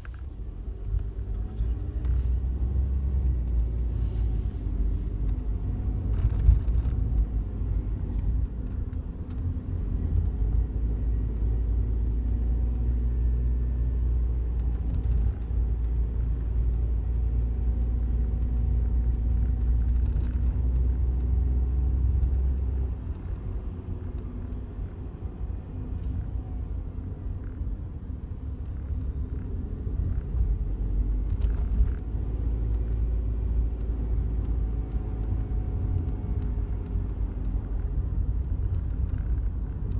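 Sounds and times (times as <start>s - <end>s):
car cabin road and engine rumble: 0.0s - 39.9s.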